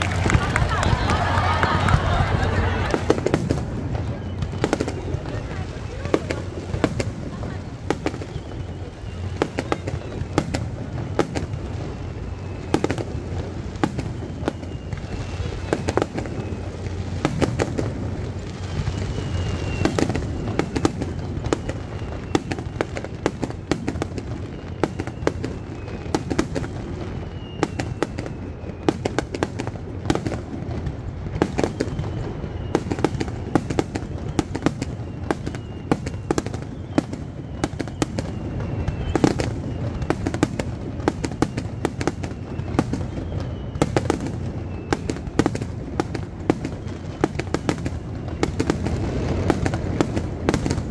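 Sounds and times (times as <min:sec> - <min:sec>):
faint falling whistles: 0:00.0 - 0:06.9, 0:07.9 - 0:16.9, 0:18.3 - 0:29.6, 0:31.4 - 0:50.9
fireworks bursting: 0:00.0 - 0:50.9.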